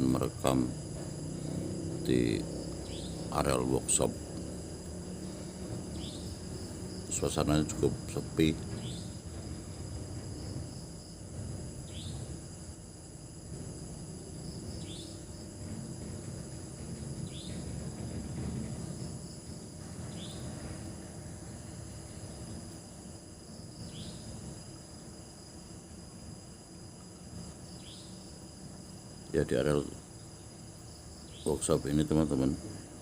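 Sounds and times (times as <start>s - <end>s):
crickets and insects trilling: 0.0s - 33.0s
low uneven rumble: 0.0s - 33.0s.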